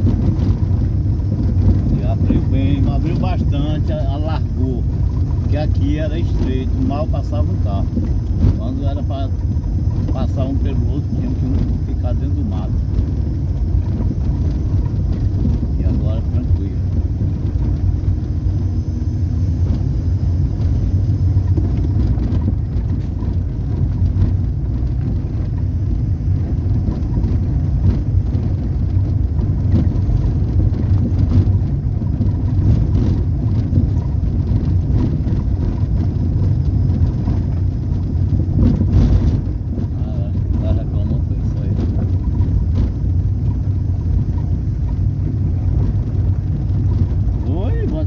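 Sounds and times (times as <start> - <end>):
knocks from road bumps: 0.0 - 18.4, 21.2 - 48.0
car engine and tyres rumbling: 0.0 - 48.0.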